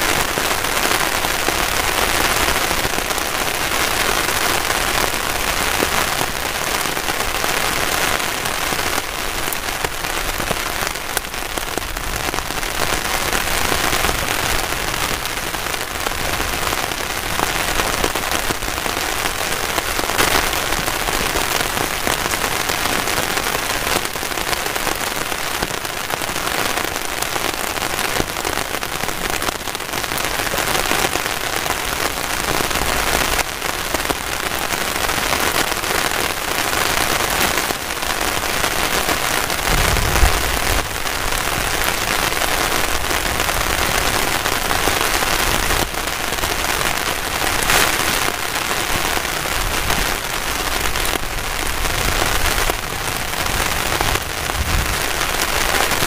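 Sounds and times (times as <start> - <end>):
heavy rain on a tarp: 0.0 - 56.0.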